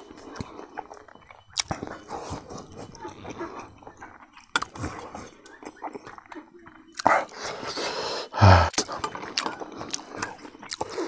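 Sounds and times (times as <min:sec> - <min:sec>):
wet chewing of food: 0:00.0 - 0:11.0.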